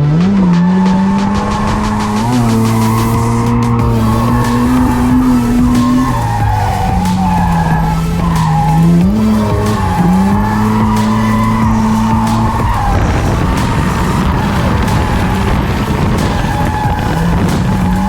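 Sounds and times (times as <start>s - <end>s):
car engine revving high: 0.0s - 18.0s
tyres skidding: 0.0s - 18.0s
wind noise: 0.9s - 18.0s.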